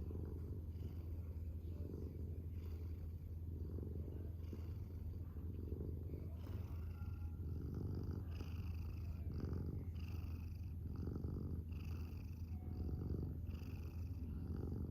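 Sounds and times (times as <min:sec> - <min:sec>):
cat purring: 0:00.0 - 0:14.9.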